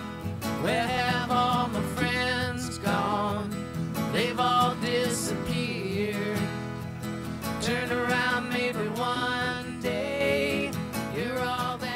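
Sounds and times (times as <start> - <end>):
country guitar music: 0.0 - 11.9.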